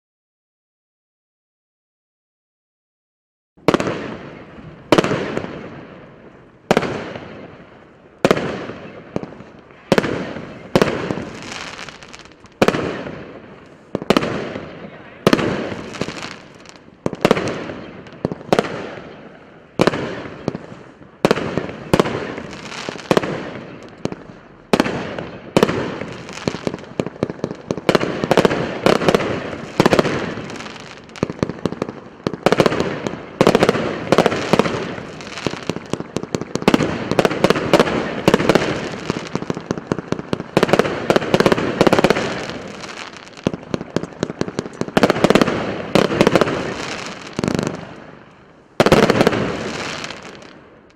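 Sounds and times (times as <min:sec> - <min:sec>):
firework crackling: 0:03.7 - 0:50.9
firework cake firing: 0:08.2 - 0:50.9.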